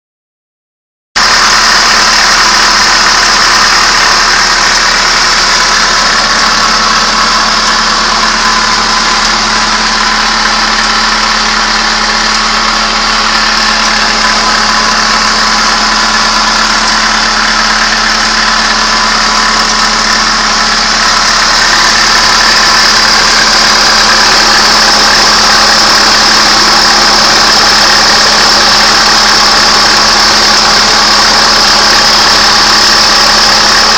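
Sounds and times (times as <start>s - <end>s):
car engine idling: 1.2s - 33.9s
engine clicking: 1.2s - 33.9s.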